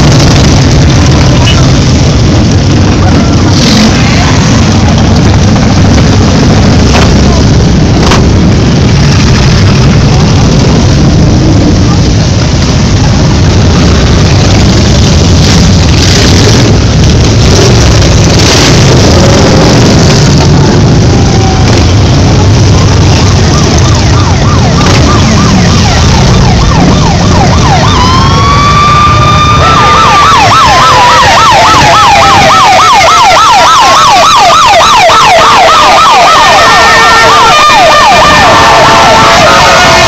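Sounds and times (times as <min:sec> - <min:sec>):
sirens yelping and wailing: 0:00.0 - 0:40.0.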